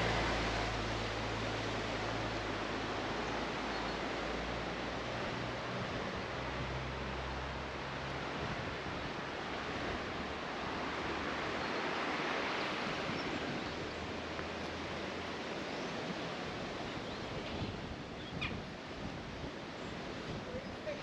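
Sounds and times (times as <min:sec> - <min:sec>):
sea surf washing in: 0:00.0 - 0:21.0.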